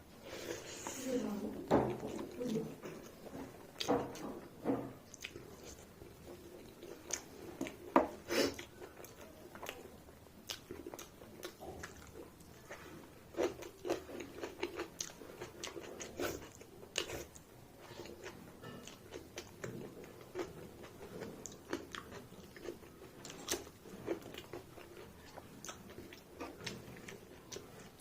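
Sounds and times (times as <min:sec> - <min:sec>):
person chewing crunchy food: 0:01.8 - 0:28.0.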